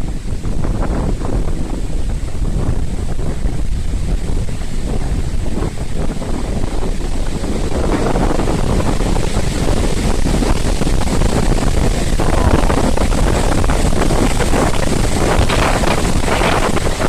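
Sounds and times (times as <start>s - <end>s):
wind buffeting microphone: 0.0s - 17.0s
wind gusts rushing through trees: 0.0s - 17.0s.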